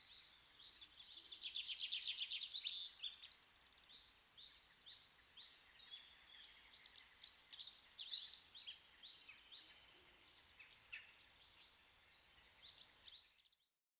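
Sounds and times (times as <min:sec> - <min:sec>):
faint outdoor hiss: 0:00.0 - 0:13.6
songbirds chirping: 0:00.0 - 0:13.9.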